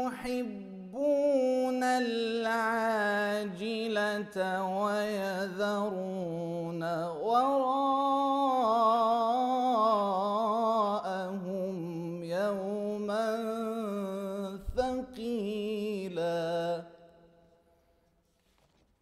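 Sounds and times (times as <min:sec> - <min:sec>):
man chanting melodically: 0:00.0 - 0:16.9.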